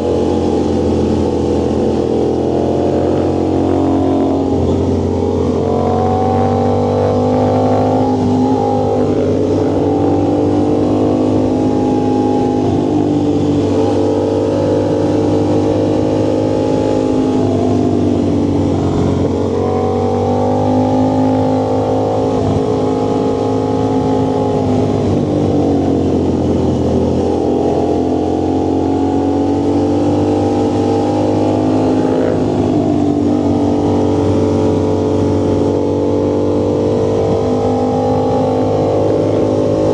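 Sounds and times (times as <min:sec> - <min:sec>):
vehicle engine and exhaust cruising: 0:00.0 - 0:39.9.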